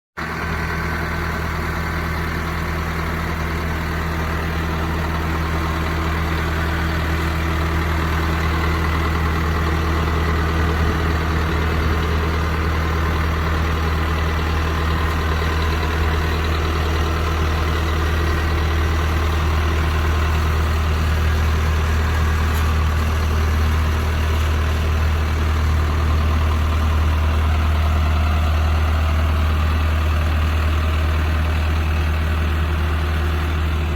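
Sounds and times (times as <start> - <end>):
tractor diesel engine idling: 0.2 - 33.9.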